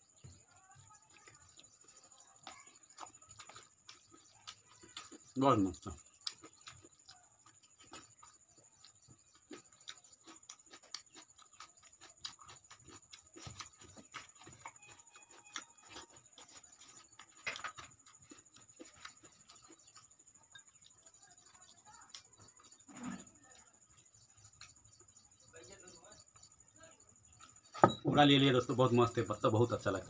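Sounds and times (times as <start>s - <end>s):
chewing: 0.0s - 25.5s.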